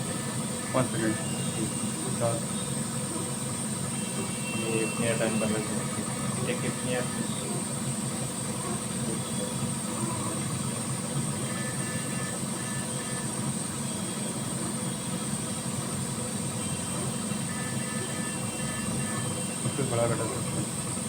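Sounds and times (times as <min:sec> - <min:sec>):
machine drone with hiss: 0:00.0 - 0:21.0.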